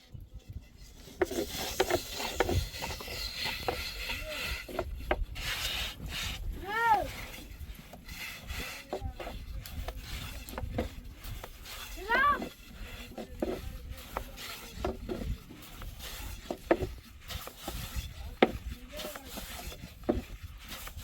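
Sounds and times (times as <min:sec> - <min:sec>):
rubbing and scraping: 0:00.0 - 0:21.0.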